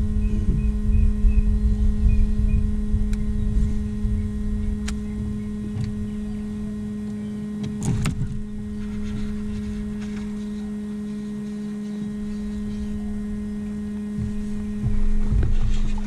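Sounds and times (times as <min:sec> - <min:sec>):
electric motor humming: 0:00.0 - 0:16.0.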